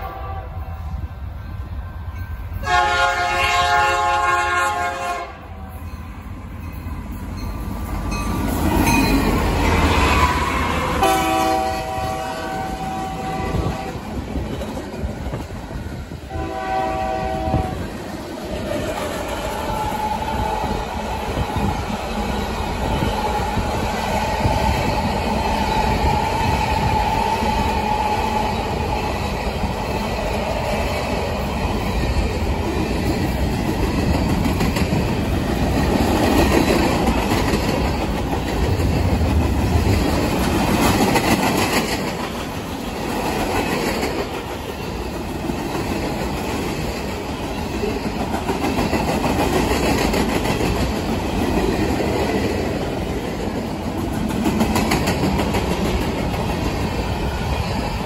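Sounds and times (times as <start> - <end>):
freight train cars rolling past: 0.0 - 58.0.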